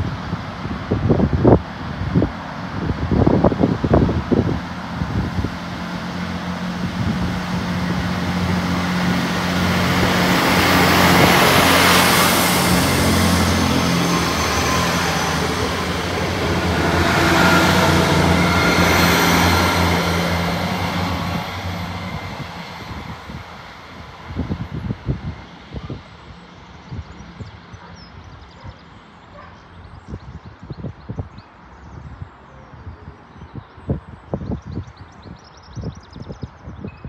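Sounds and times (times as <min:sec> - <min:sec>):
diesel train engines humming: 0:00.0 - 0:29.7
rushing wheel and rail noise: 0:00.0 - 0:37.0.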